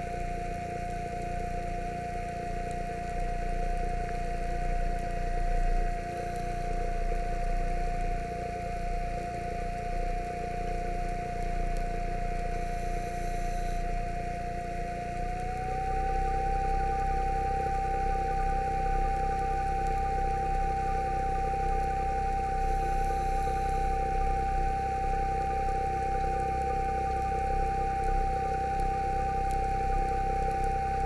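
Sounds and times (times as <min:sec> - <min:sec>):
underwater scooter motor whining: 0:00.0 - 0:31.0.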